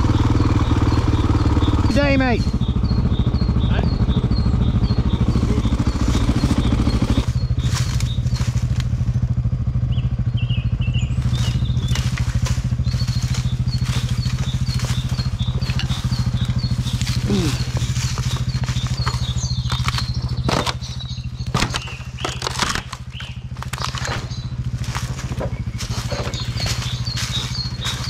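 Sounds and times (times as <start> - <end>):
dirt bike engine at low revs: 0.0 - 28.0
dry leaves crackling under tyres: 4.5 - 28.0.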